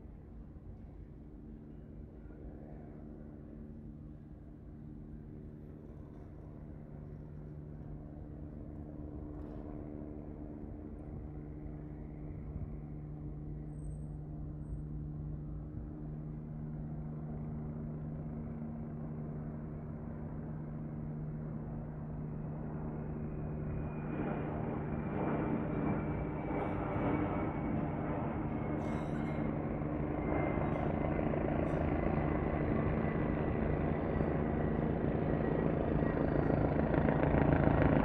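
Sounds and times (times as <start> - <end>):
helicopter drone: 0.0 - 38.0.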